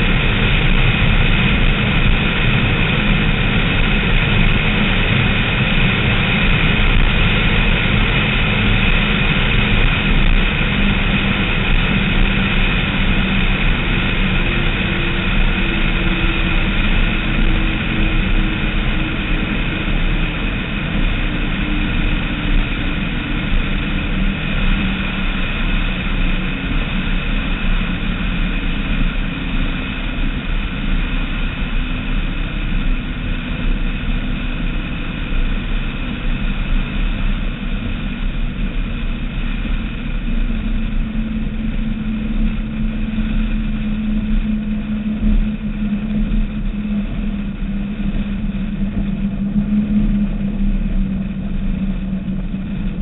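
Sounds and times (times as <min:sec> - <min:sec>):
wind: 0:00.0 - 0:53.0.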